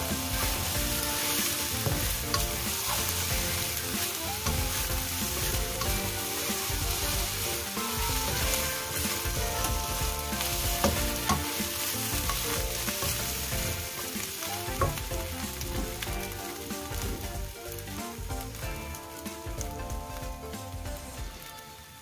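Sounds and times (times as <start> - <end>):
spatula stirring and scraping: 0.0 - 20.3
food sizzling in a wok: 0.0 - 22.0.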